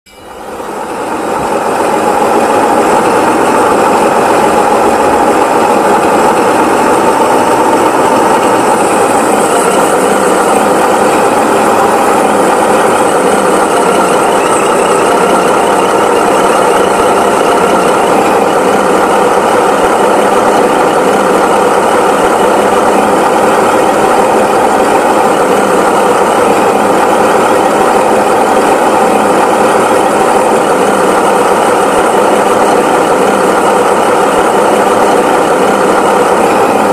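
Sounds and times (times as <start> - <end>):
tractor engine running: 0.4 - 36.9.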